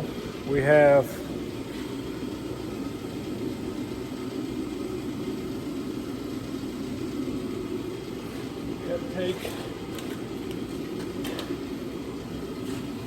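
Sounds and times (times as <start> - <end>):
low whir and rumble: 0.0 - 13.0.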